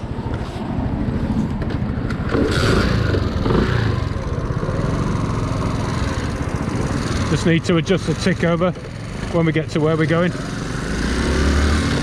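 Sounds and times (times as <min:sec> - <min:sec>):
moped engine running: 0:01.8 - 0:12.0.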